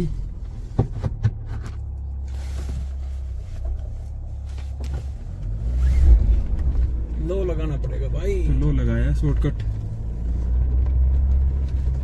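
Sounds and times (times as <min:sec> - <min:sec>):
suv engine droning: 0:00.0 - 0:12.0.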